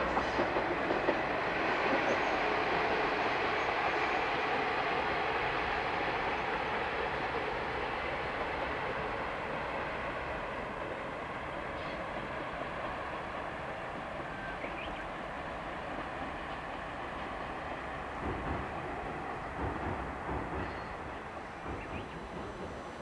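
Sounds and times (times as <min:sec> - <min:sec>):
diesel railcar rumbling on track: 0:00.0 - 0:23.0.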